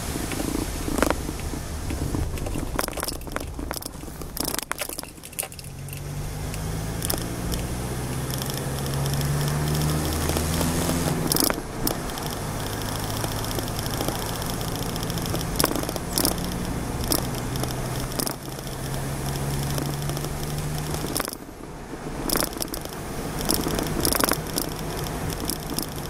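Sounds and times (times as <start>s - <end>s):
low engine hum: 0.0s - 26.0s
road and engine noise: 0.0s - 26.0s
clicks and rattles: 0.2s - 21.6s, 22.2s - 26.0s.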